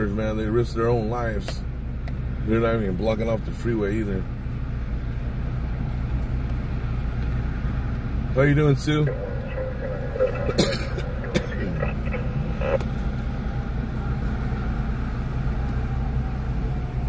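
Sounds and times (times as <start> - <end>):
freeway traffic rumble: 0.0 - 17.0.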